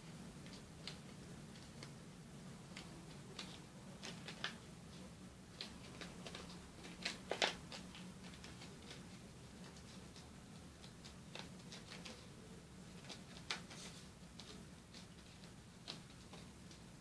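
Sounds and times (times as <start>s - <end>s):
paper crackling and rustling: 2.7s - 17.0s.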